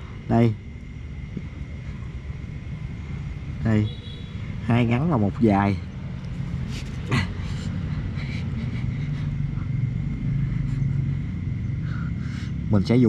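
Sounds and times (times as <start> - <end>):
low motor-like rumble: 0.0 - 13.0.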